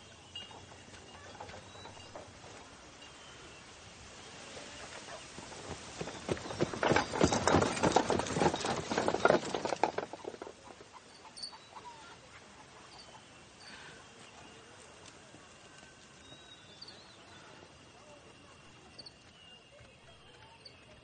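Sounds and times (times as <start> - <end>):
faint chirps: 0.0 - 7.2, 10.2 - 21.0.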